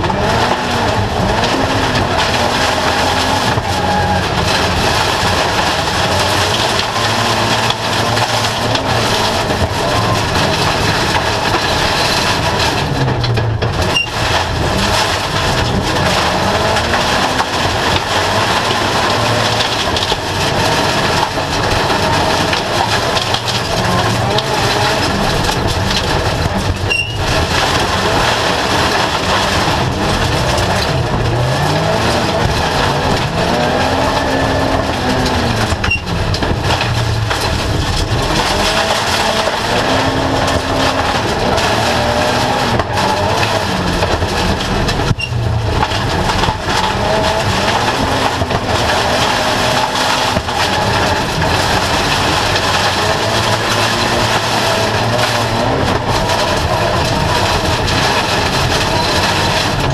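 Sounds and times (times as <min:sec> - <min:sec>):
race car engine revving: 0:00.0 - 0:59.9
road and tyre rumble: 0:00.0 - 0:59.9.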